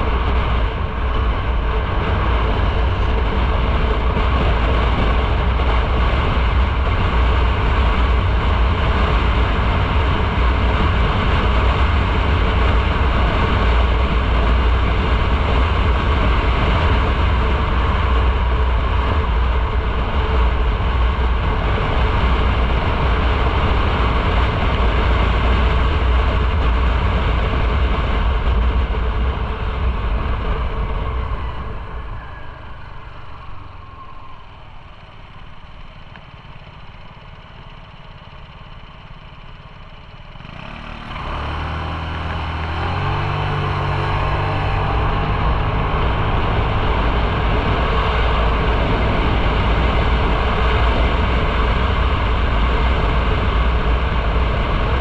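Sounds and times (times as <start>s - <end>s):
motorcycle engine rumble: 0.0s - 55.0s
road and wind noise: 0.0s - 55.0s.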